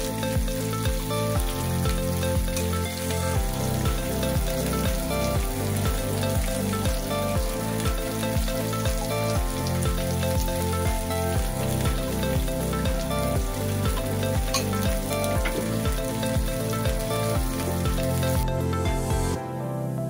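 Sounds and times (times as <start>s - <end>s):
background music with beat: 0.0s - 20.0s.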